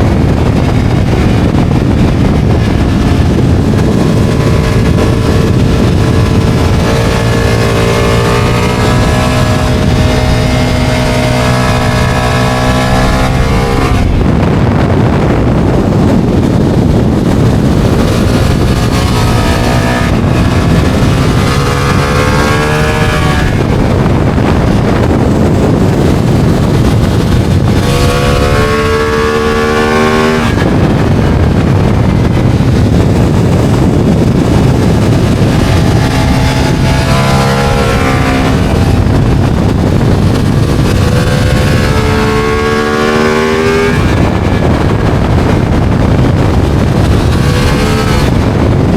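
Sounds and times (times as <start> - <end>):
motorcycle engine revving: 0.0 - 48.9
wind rush on microphone: 0.0 - 48.9.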